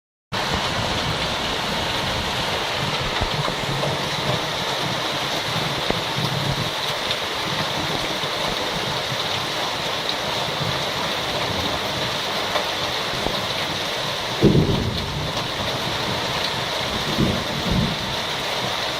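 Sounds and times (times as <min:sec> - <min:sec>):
heavy rain: 0:00.4 - 0:18.9.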